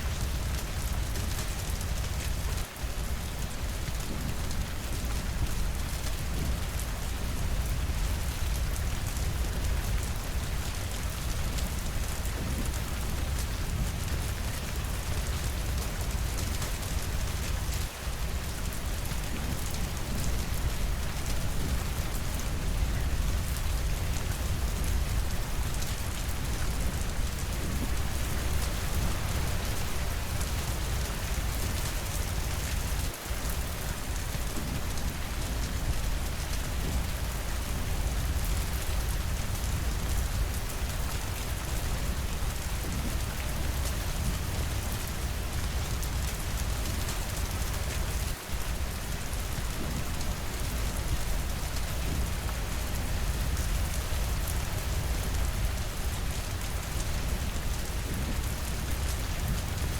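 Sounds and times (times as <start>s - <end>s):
rain on windows: 0.0s - 59.9s.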